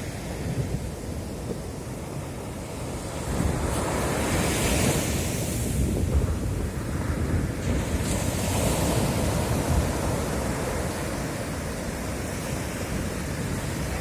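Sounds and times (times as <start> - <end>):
sea waves breaking on beach: 0.0 - 14.0
wind buffeting microphone: 0.0 - 14.0.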